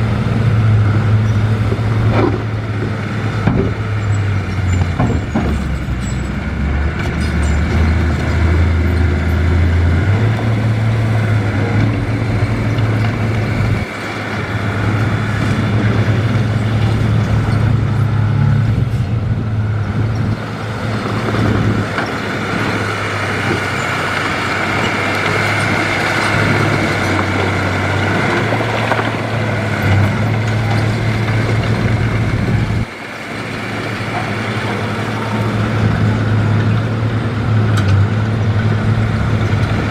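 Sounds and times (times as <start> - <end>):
diesel machinery engine hum: 0.0 - 39.9.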